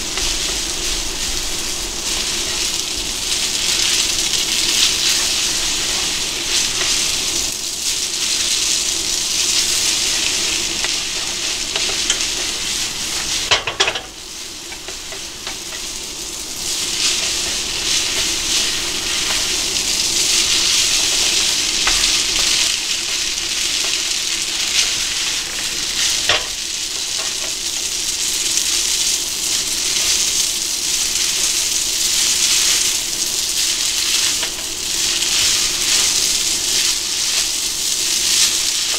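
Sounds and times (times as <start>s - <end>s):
noodles sizzling in a frying pan: 0.0s - 38.9s.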